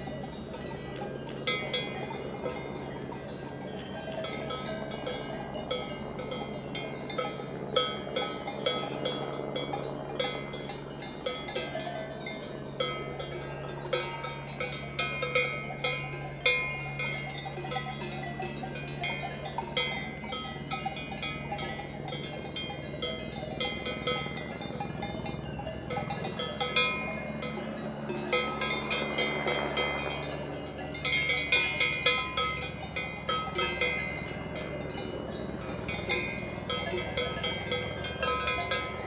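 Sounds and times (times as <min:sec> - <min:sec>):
livestock bells clanking: 0:00.0 - 0:39.0.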